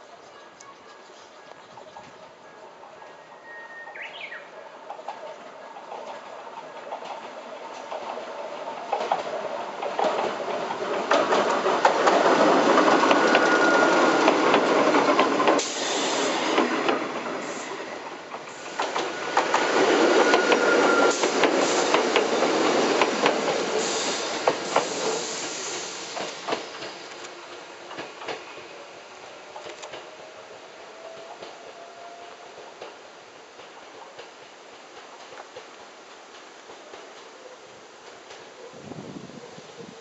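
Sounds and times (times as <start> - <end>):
rumble of wheels on rail: 4.2 - 40.0.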